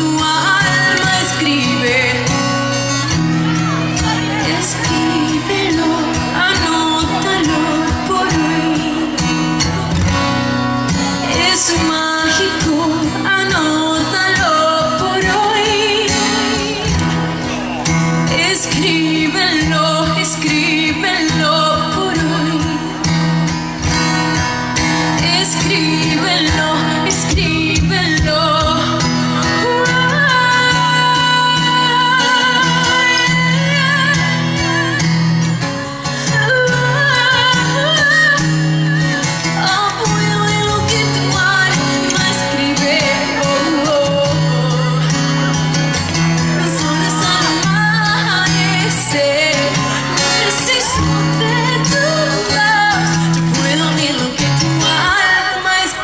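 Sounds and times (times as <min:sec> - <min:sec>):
live band with guitar: 0:00.0 - 0:56.0
woman singing into microphone: 0:00.0 - 0:56.0.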